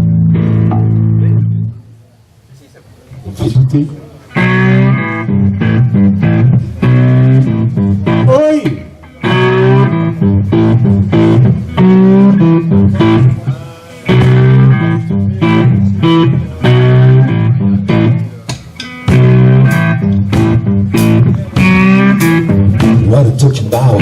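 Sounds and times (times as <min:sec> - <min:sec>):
bass guitar: 0:00.0 - 0:02.0, 0:03.2 - 0:24.0
electric guitar chords: 0:00.0 - 0:02.0, 0:03.2 - 0:24.0
drums: 0:04.3 - 0:24.0.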